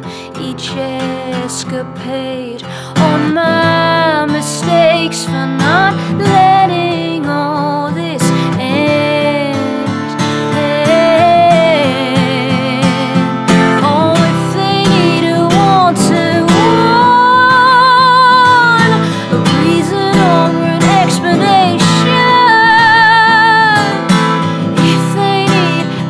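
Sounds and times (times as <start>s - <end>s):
strummed acoustic guitar: 0.0s - 26.0s
woman singing: 0.0s - 26.0s.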